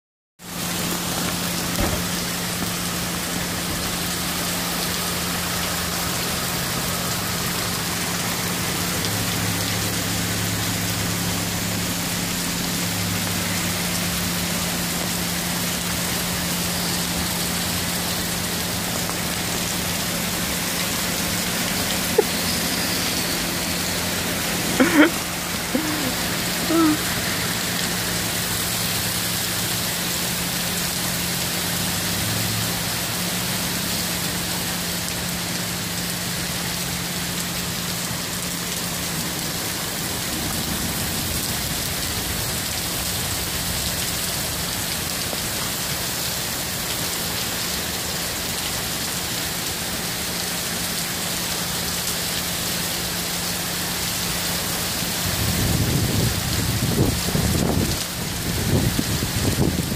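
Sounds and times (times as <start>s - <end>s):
heavy rain on pavement: 0.4s - 59.9s.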